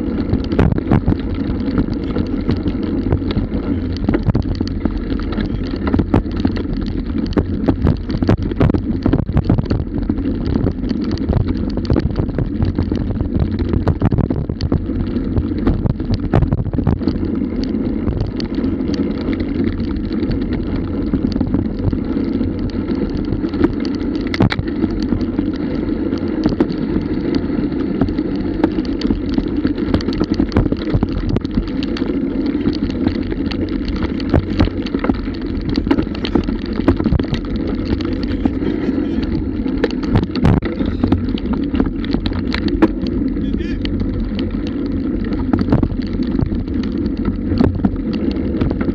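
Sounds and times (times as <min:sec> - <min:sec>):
bicycle rattling over bumpy track: 0:00.0 - 0:48.9
wind buffeting microphone: 0:00.0 - 0:48.9
sharp clicks and knocks: 0:00.2 - 0:14.8, 0:22.6 - 0:27.4, 0:28.0 - 0:48.9.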